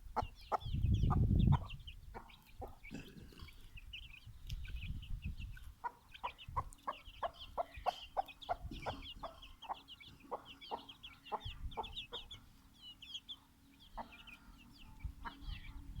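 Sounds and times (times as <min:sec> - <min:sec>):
chicks cheeping: 0:00.0 - 0:16.0
hen clucking rapidly: 0:00.0 - 0:16.0.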